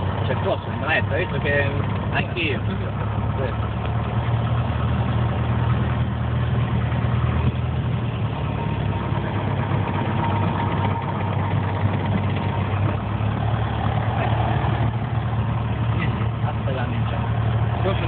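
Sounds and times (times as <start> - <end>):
light aircraft engine droning: 0.0 - 18.0.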